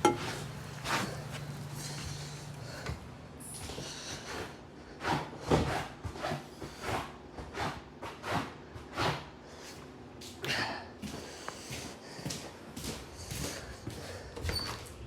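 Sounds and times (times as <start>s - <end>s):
noisy rhythmic breathing: 0.4s - 14.6s.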